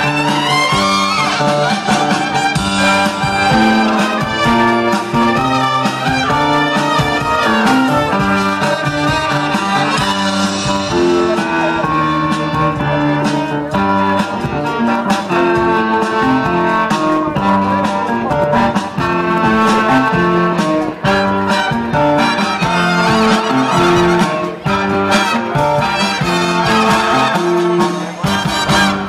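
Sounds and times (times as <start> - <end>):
instrumental music with drums: 0.0 - 29.0.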